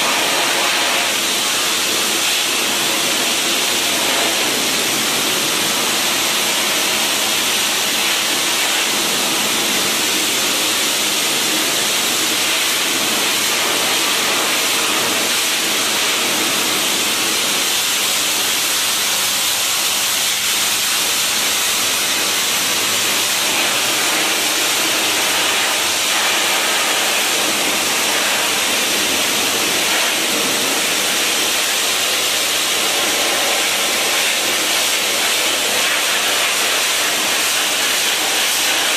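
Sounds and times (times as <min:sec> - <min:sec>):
high-pressure water spray hissing: 0:00.0 - 0:38.9.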